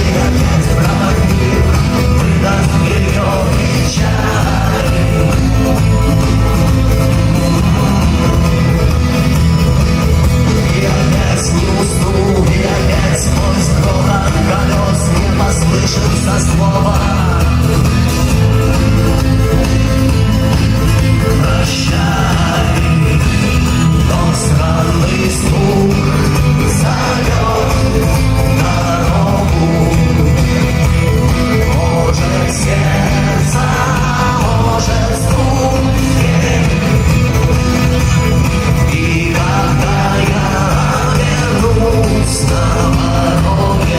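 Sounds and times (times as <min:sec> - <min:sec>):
person singing: 0:00.0 - 0:09.0, 0:10.2 - 0:19.0, 0:21.1 - 0:37.5, 0:38.6 - 0:43.9
guitar: 0:00.0 - 0:43.9
loud rock music: 0:00.0 - 0:43.9.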